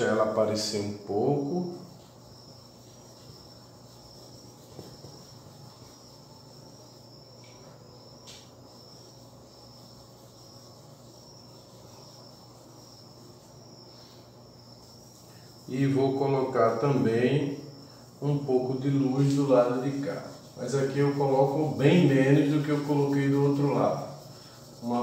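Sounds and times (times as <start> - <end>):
cricket chirping: 0.0 - 25.0
low steady hum: 0.0 - 25.0.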